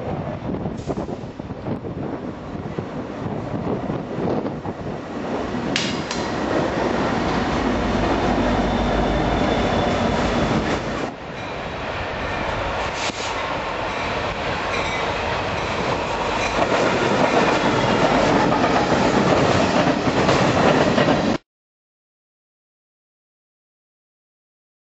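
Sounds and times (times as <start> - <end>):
freight train rumbling and clattering: 0.0 - 21.4.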